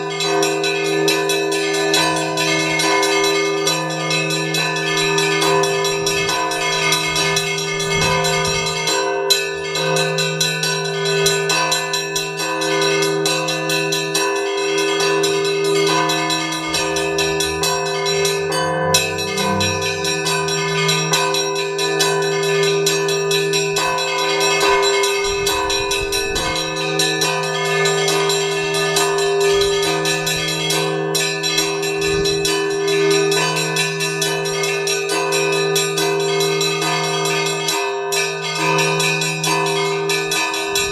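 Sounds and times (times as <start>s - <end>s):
large bells humming: 0.0s - 40.9s
small church bells ringing fast: 0.0s - 40.9s.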